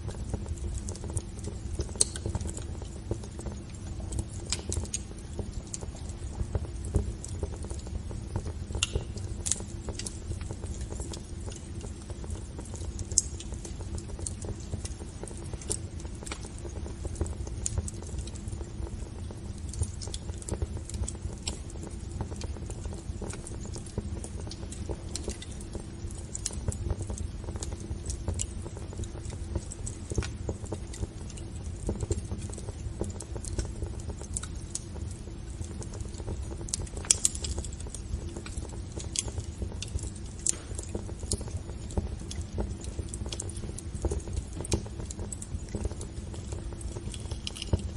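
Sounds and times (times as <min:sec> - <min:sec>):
low rumble of fire: 0:00.0 - 0:47.9
wood fire crackling and popping: 0:00.0 - 0:47.9.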